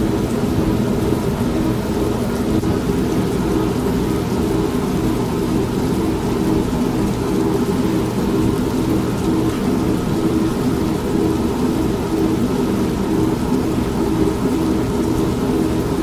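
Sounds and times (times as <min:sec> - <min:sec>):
steady rain: 0:00.0 - 0:16.0
washing machine running: 0:00.0 - 0:16.0.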